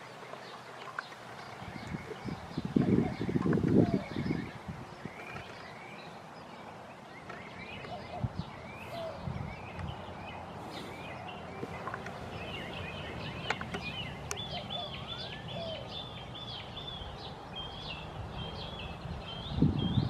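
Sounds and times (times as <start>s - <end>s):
outdoor background noise: 0.0s - 20.0s
songbirds chirping and singing: 0.0s - 20.0s.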